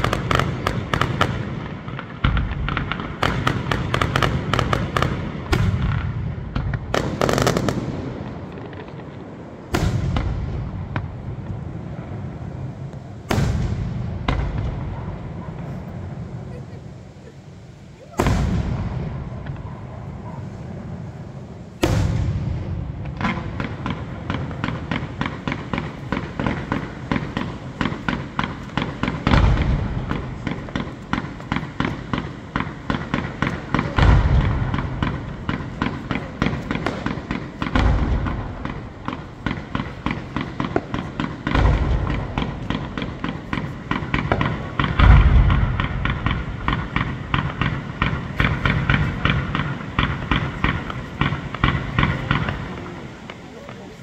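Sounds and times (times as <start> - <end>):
firework pops and crackles: 0.0 - 11.7, 12.8 - 15.9, 18.0 - 20.4, 21.8 - 54.0
deep firework booms: 0.0 - 16.6, 18.0 - 54.0.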